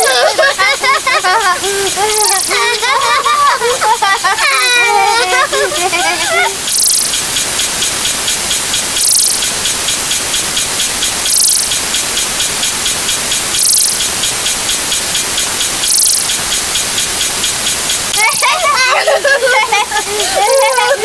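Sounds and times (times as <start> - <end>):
loud dense hiss: 0.0 - 21.0.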